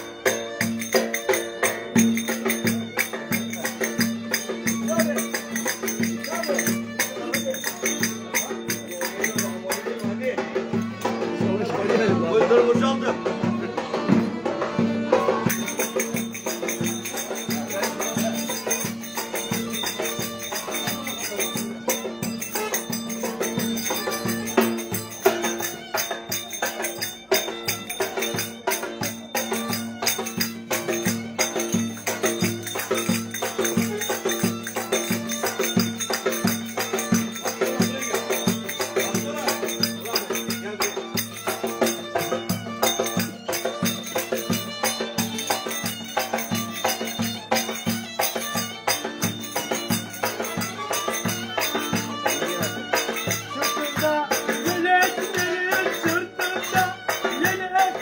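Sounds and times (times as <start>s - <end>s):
drum beating fast rhythm: 0.0s - 58.0s
violin melody: 0.0s - 58.0s.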